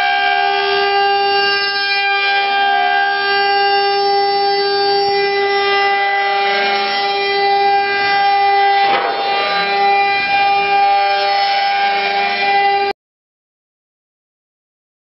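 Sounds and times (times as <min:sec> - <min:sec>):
wood router spindles whining: 0:00.0 - 0:12.9.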